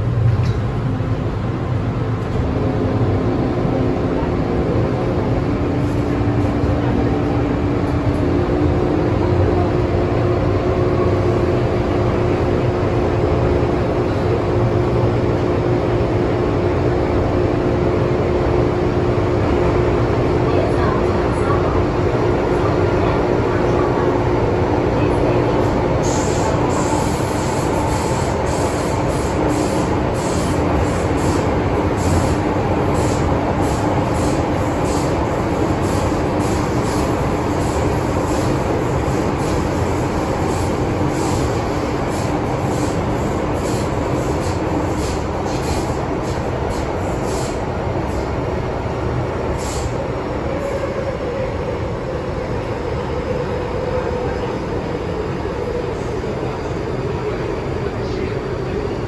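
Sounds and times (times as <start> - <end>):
train rumble on board: 0.0 - 59.0.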